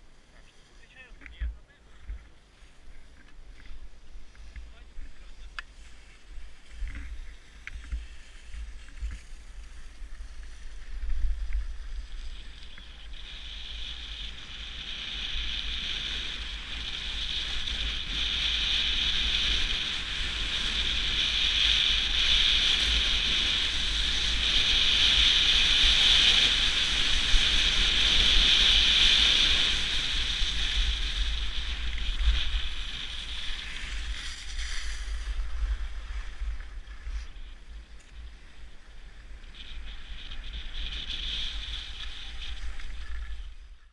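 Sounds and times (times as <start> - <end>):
skis hissing over snow: 1.9 - 43.9.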